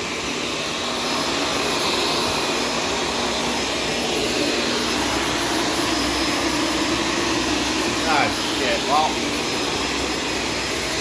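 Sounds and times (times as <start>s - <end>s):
vacuum cleaner motor drone: 0.0s - 11.0s.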